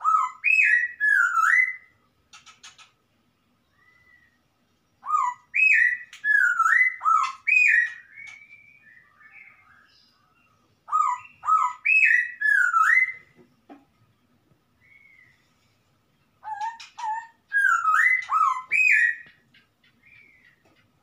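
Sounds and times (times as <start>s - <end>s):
bird whistling song: 0.0s - 2.9s, 3.6s - 4.4s, 5.0s - 13.4s, 14.8s - 15.6s, 16.4s - 20.6s.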